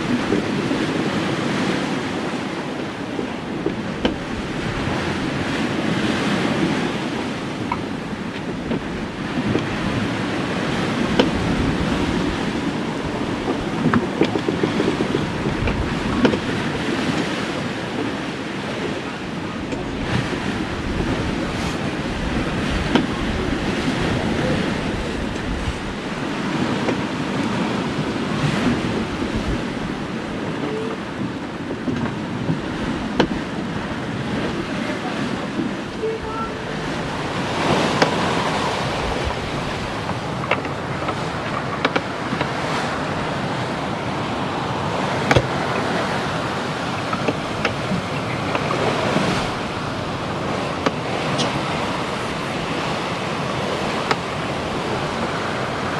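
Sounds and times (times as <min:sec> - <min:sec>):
water rushing along a hull: 0:00.0 - 0:55.9
wind on microphone: 0:00.0 - 0:55.9.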